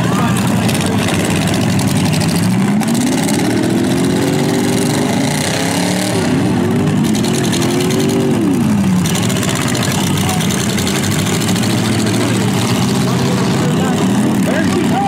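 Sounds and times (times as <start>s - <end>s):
engine revving: 0.0s - 15.0s
truck engines running hard: 0.0s - 15.0s.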